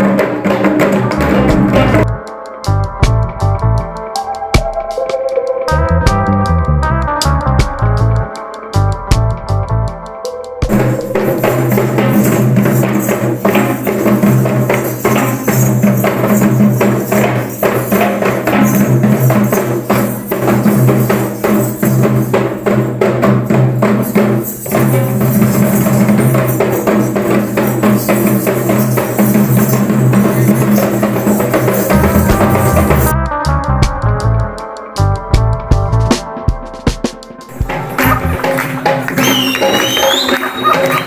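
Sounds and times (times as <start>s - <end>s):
background music with tambourine: 0.0s - 41.0s.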